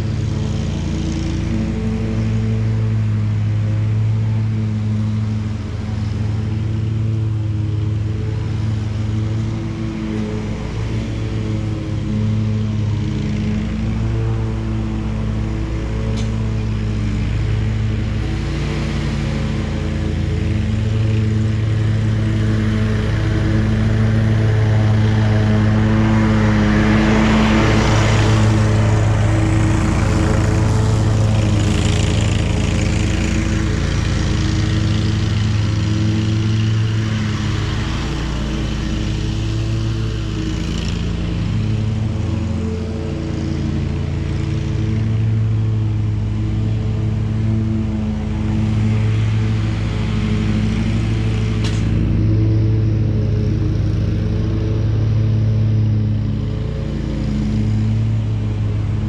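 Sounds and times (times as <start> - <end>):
riding mower engine running: 0.0 - 59.0.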